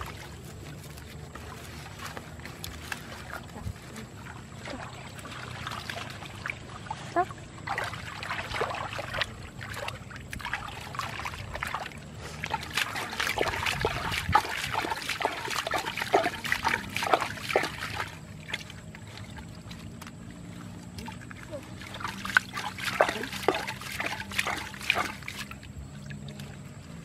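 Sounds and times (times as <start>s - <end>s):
hands splashing in muddy water: 0.0s - 27.0s.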